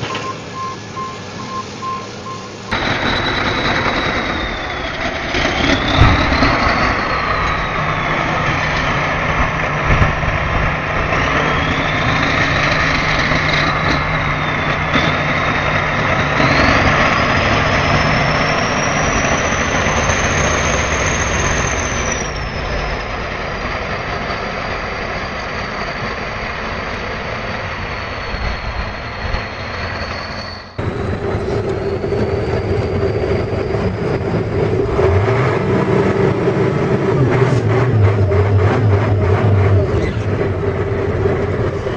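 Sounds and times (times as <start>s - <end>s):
diesel engines under load: 0.0s - 41.9s
high whine: 0.0s - 41.9s.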